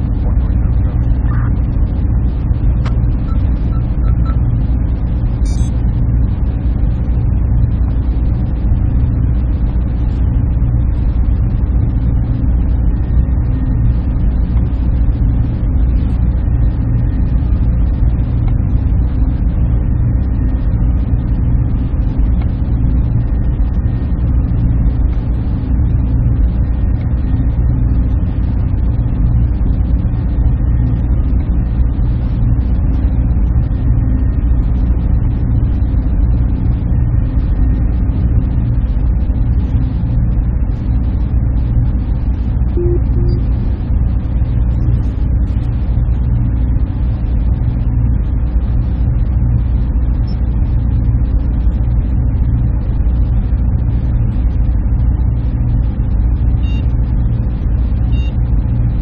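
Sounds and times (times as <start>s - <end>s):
server fans humming: 0.0s - 59.0s.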